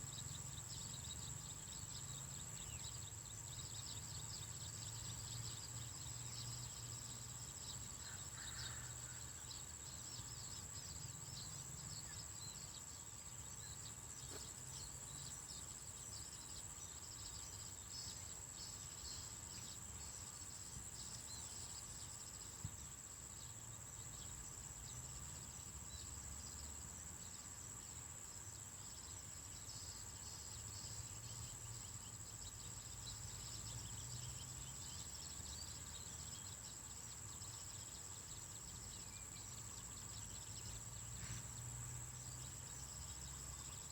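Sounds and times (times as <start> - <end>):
crickets and insects chirring: 0.0 - 43.9.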